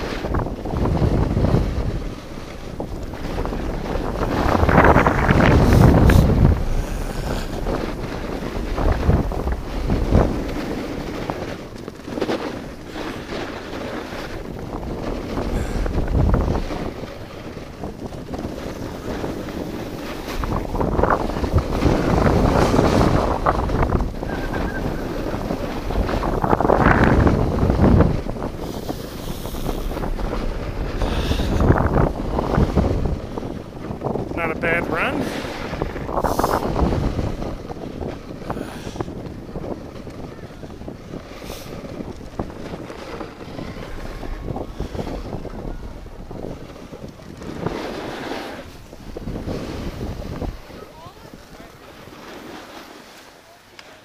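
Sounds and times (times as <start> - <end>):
snowboard sliding over snow: 0.0 - 54.0
wind buffeting microphone: 0.0 - 54.0.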